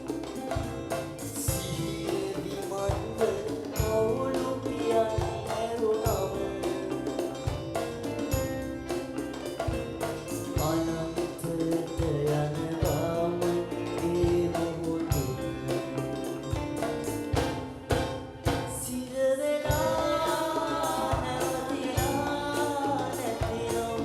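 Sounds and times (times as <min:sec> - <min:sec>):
instrumental melody: 0:00.0 - 0:24.0
steady drum beat: 0:00.0 - 0:24.0.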